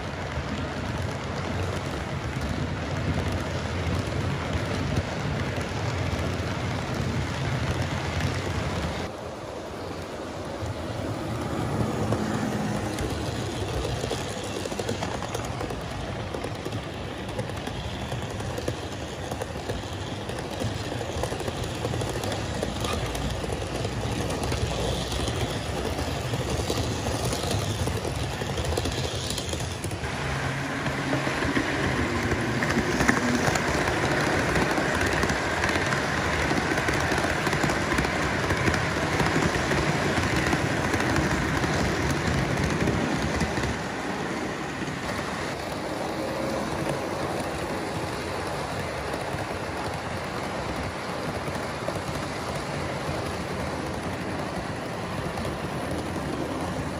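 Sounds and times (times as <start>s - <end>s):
model train rolling and whirring: 0.0s - 56.9s.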